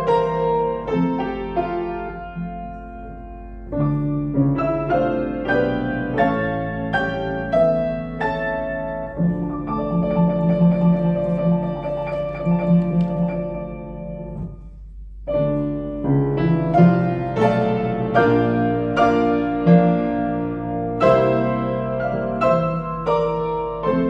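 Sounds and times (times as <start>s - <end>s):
piano duet: 0.0s - 24.0s.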